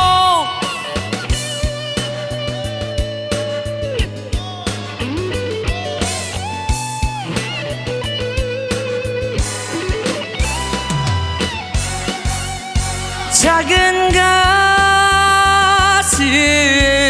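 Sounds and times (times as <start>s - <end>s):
electric guitar solo: 0.0s - 16.6s
bass: 0.0s - 17.0s
steady drum beat: 0.0s - 17.0s.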